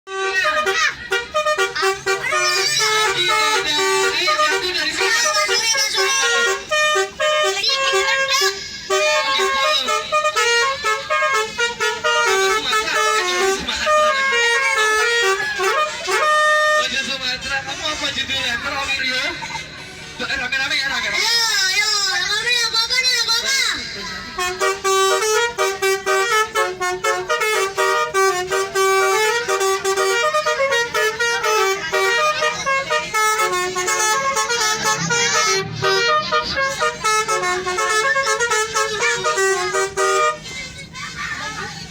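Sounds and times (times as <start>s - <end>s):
multi-tone bus horn tune: 0.0s - 17.8s, 22.4s - 41.2s.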